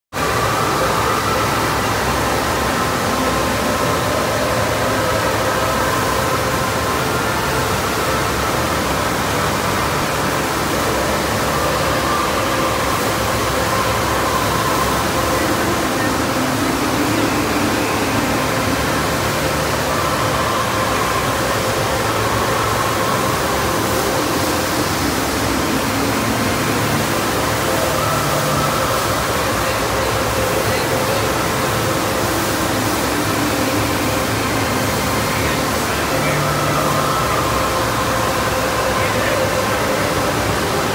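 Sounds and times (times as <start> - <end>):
rush of pumped water: 0.1 - 40.9.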